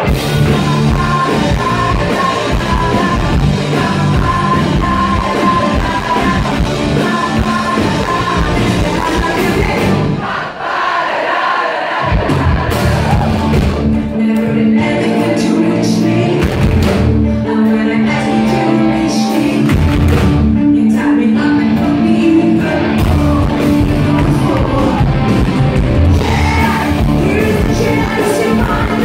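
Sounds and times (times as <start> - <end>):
bass: 0.0 - 10.2, 12.1 - 29.0
electric guitar: 0.0 - 10.2, 12.0 - 29.0
drums: 0.0 - 29.0
female singer: 0.2 - 10.2, 13.9 - 25.4, 26.1 - 29.0.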